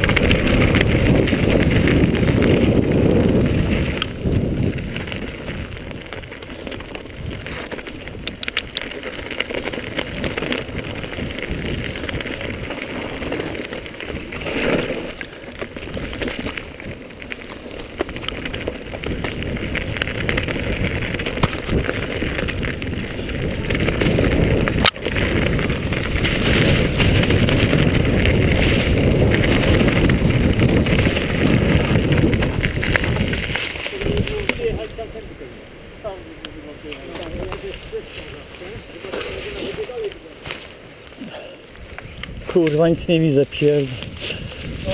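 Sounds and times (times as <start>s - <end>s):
bike rattling over bumps: 0.0s - 44.9s
tyres rumbling on dirt: 0.0s - 44.9s
wind buffeting microphone: 0.0s - 44.9s.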